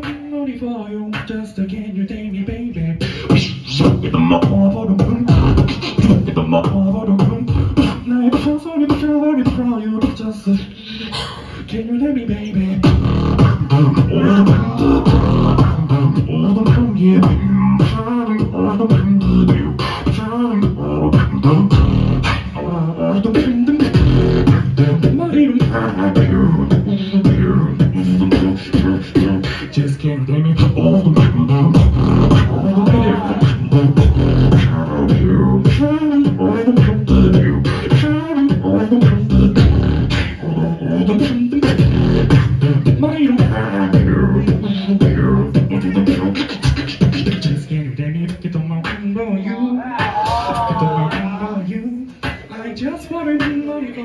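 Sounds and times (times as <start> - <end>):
beatboxing into a microphone: 0.0 - 54.0.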